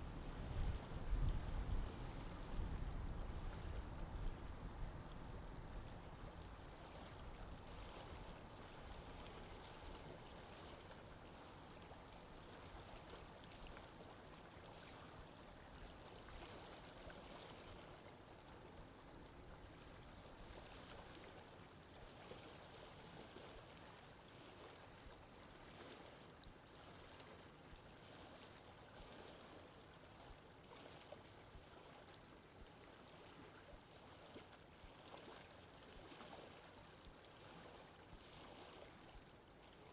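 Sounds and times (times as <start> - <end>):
lake water washing: 0.0 - 39.9.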